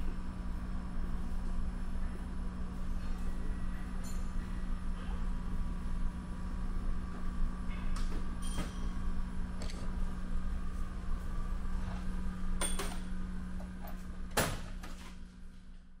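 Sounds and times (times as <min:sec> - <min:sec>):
mechanical hum with low rumble: 0:00.0 - 0:16.0.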